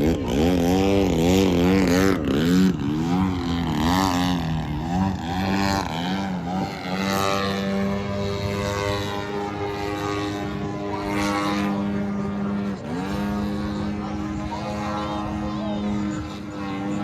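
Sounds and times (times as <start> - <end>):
model airplane motor and propeller: 0.0 - 17.0.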